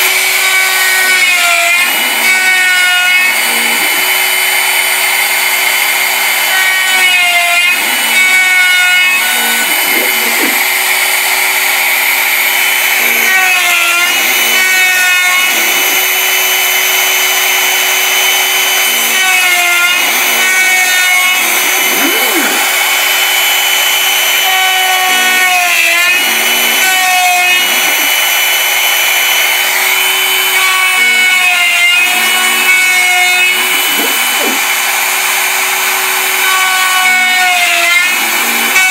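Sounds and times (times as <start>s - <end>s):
router high whine: 0.0s - 38.9s.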